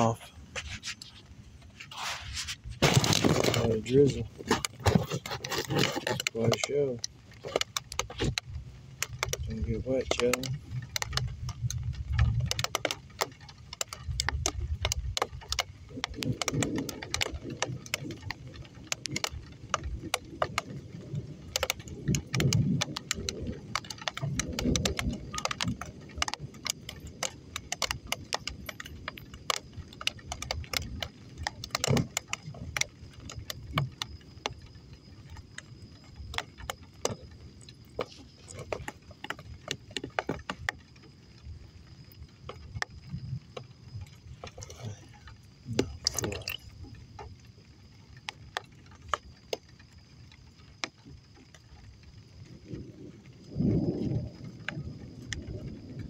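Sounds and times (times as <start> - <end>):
raindrops ticking on a surface: 0.0 - 56.0.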